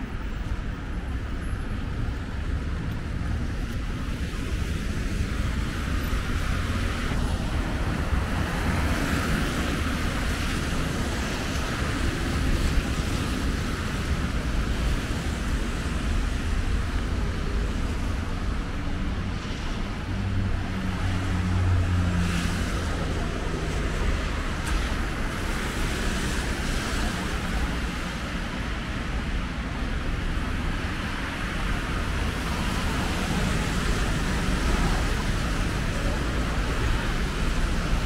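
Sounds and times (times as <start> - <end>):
tyres hissing on wet road: 2.8 - 38.0.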